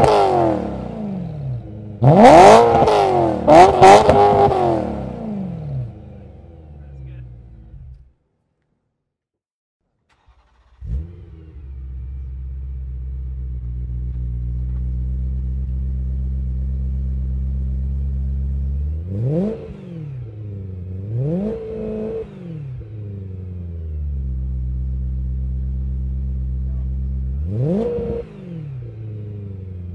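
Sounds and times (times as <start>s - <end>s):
car engine revving: 0.0s - 8.1s, 10.1s - 29.9s
car engine starting and idling: 0.0s - 8.3s, 9.8s - 29.9s.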